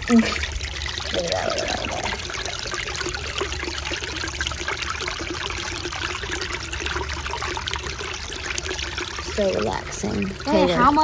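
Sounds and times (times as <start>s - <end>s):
stream water babbling: 0.0s - 11.0s.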